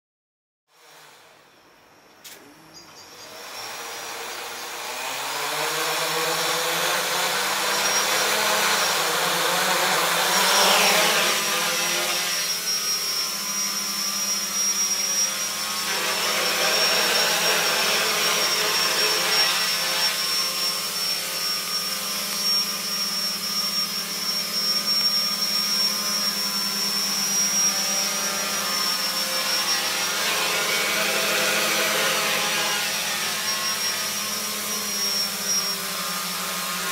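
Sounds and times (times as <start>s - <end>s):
quadcopter buzzing whine: 0.8s - 36.9s.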